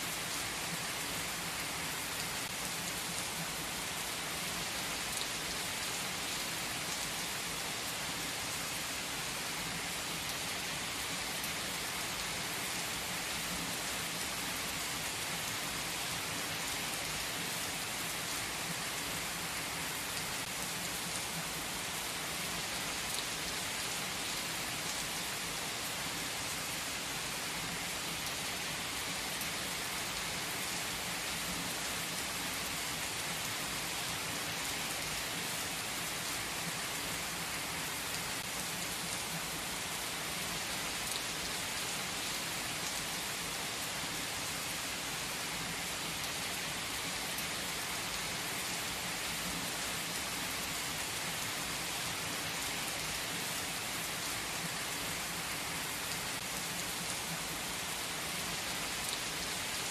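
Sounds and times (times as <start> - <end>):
heavy rain on asphalt: 0.0 - 59.9.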